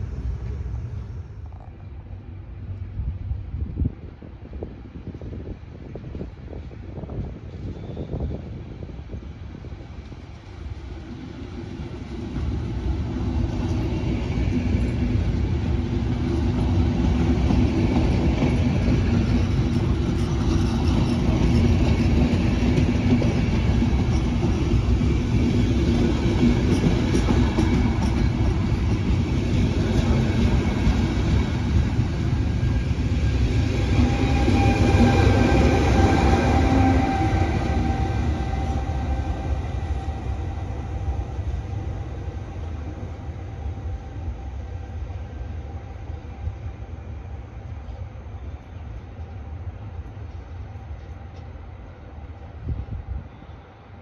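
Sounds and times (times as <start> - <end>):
train rumble and wheel clatter: 0.0 - 54.0.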